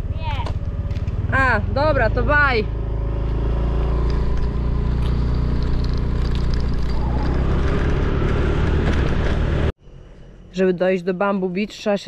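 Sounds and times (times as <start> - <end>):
motor scooter engine running: 0.0 - 9.7.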